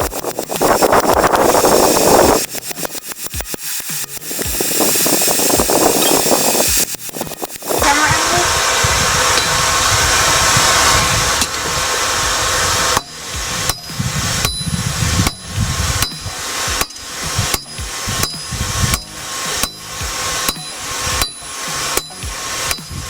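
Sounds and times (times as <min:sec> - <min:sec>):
hammer blows on hot steel anvil: 0:00.0 - 0:23.0
loud steady hiss: 0:00.0 - 0:23.0.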